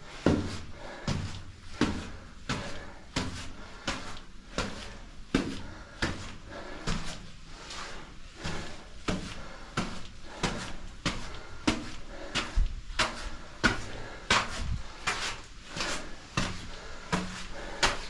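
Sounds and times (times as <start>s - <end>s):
footsteps on a trail: 0.1s - 18.0s.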